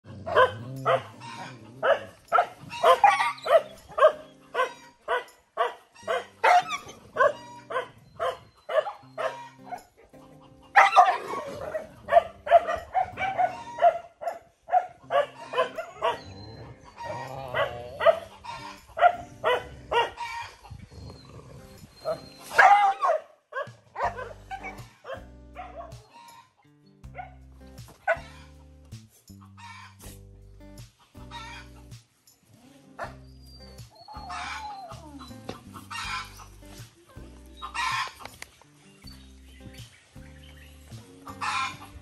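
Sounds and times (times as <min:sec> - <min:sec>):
dogs barking: 0:00.0 - 0:26.5, 0:27.1 - 0:30.2, 0:32.8 - 0:42.0.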